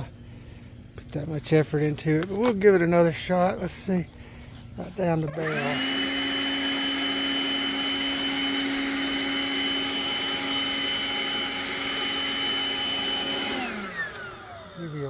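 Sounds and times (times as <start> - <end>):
leaf blower fan whine: 0.0 - 15.0.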